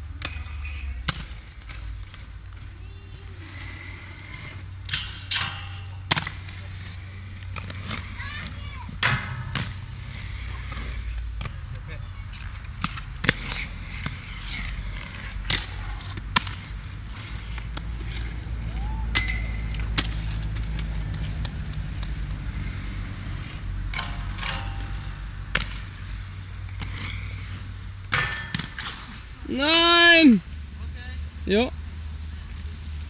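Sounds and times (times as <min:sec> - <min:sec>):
skate wheels rolling on pavement: 0:00.0 - 0:33.0.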